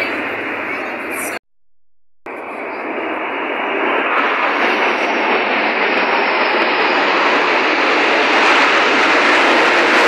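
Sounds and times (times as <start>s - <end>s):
jets roaring overhead: 0.0s - 1.4s, 2.3s - 10.0s.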